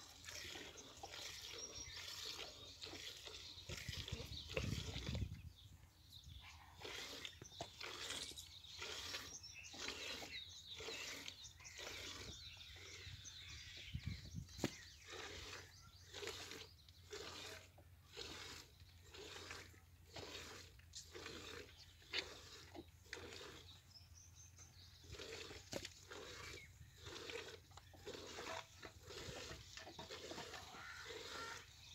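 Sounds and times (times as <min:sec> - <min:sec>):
calf sucking and slurping: 0:00.0 - 0:31.9.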